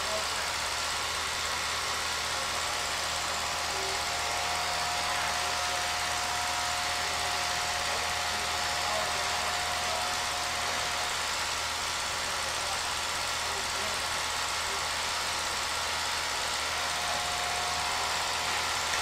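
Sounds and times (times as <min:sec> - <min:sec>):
machine running with hiss: 0:00.0 - 0:19.0.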